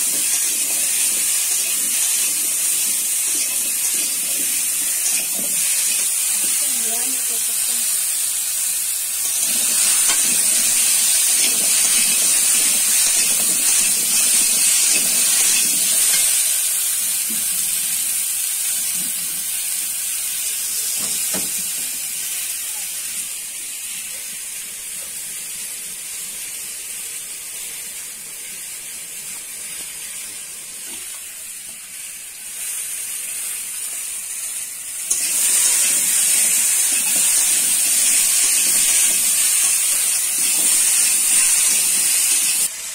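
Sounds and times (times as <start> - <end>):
potatoes sizzling in oil: 0.0 - 42.9.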